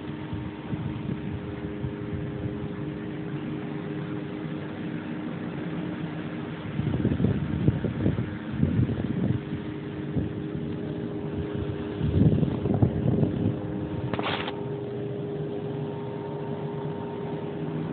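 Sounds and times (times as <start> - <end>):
steady motor hum: 0.0 - 17.9.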